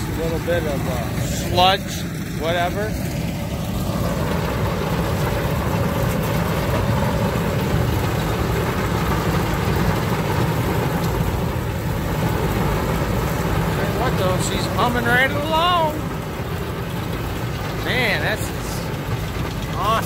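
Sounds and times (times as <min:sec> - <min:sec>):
round baler running: 0:00.0 - 0:20.0
tractor engine droning: 0:00.0 - 0:20.0.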